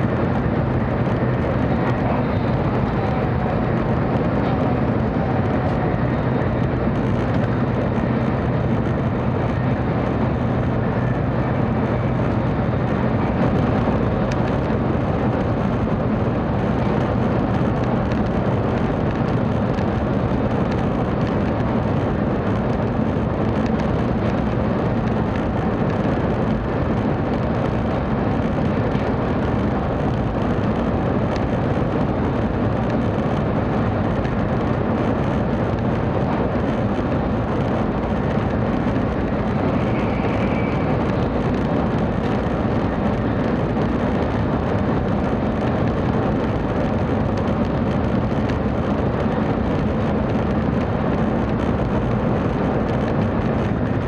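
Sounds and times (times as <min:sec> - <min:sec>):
low hum: 0:00.0 - 0:54.0
train cabin rush and rumble: 0:00.0 - 0:54.0.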